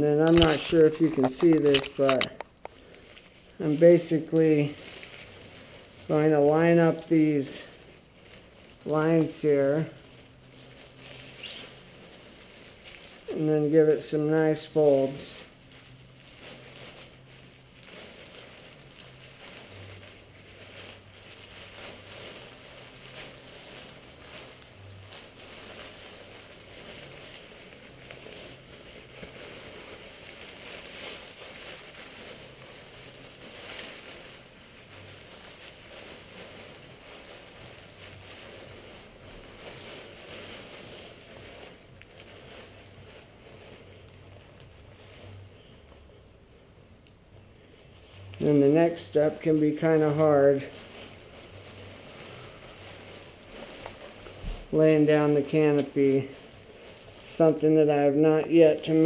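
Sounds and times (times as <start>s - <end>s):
nylon fabric rustling: 0.0s - 59.0s.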